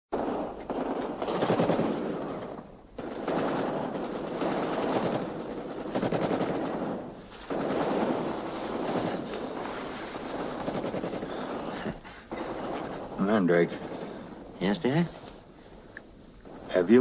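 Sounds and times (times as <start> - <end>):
rapid automatic gunfire: 0.2 - 15.1.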